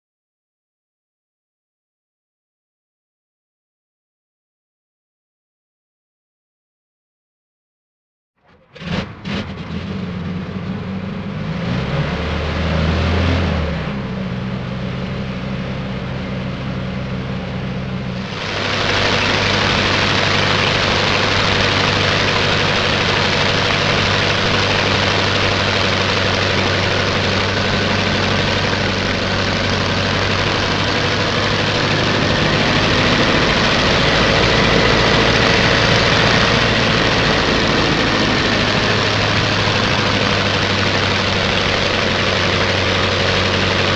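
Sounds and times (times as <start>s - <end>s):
propeller plane engine: 8.5s - 43.9s.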